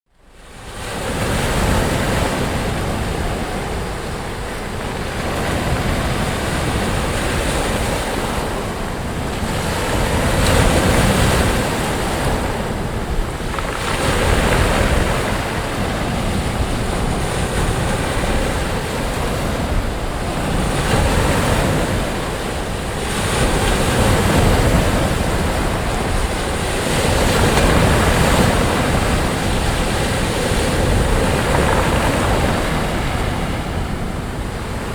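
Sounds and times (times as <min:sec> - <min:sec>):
sea waves breaking on beach: 0:00.4 - 0:34.9
wind noise on microphone: 0:00.4 - 0:34.9.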